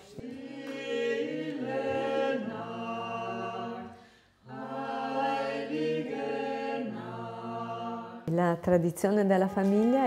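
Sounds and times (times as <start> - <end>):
small choir singing unaccompanied: 0.0 - 8.3.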